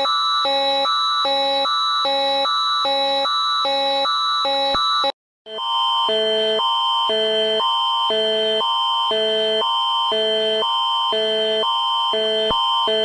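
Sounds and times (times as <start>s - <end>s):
alternating alarm chords: 0.0s - 13.0s.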